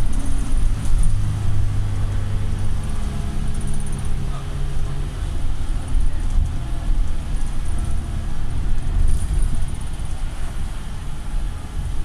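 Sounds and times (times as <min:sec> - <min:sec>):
bus diesel engine rumble: 0:00.0 - 0:12.0
road noise: 0:00.0 - 0:12.0.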